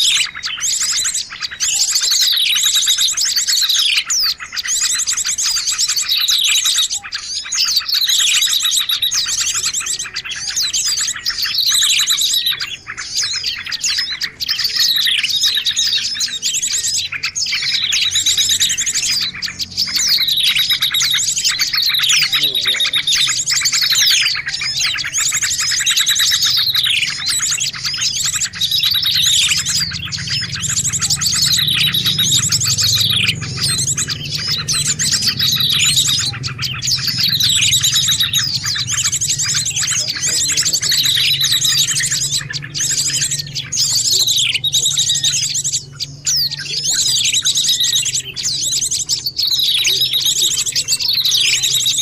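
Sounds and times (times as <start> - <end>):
songbird chattering trills: 0.0 - 52.0.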